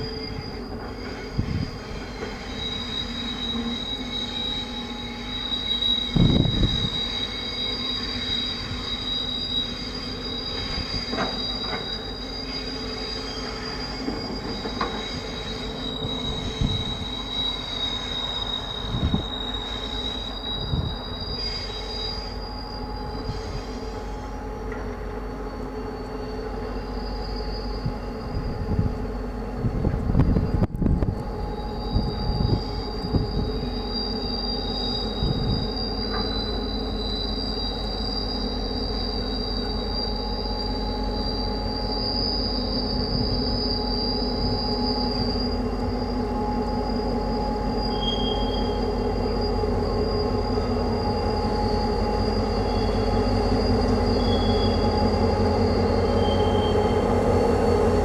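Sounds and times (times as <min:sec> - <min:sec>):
diesel locomotive running: 0:00.0 - 0:58.0
train wheels squealing: 0:00.0 - 0:58.0.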